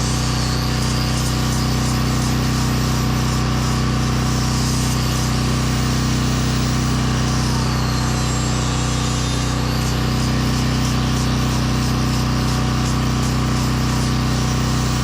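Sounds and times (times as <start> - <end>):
generator engine running: 0.0 - 15.0
power sander whining: 0.0 - 15.0.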